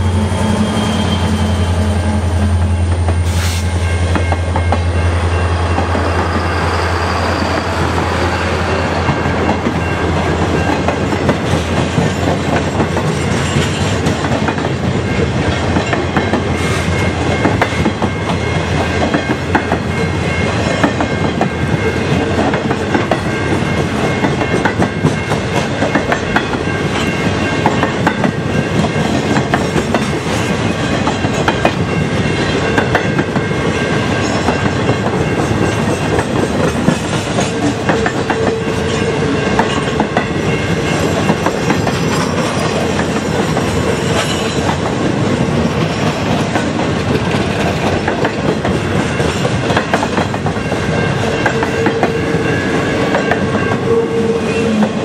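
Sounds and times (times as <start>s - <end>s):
train wheels clattering on track: 0.0s - 55.0s.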